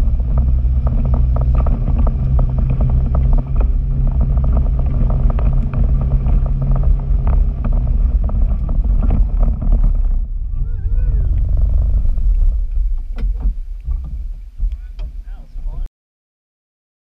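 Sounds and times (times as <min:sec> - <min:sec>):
knocks and rattles over rocks: 0:00.0 - 0:10.5, 0:11.2 - 0:15.2
off-road vehicle engine running: 0:00.0 - 0:15.9.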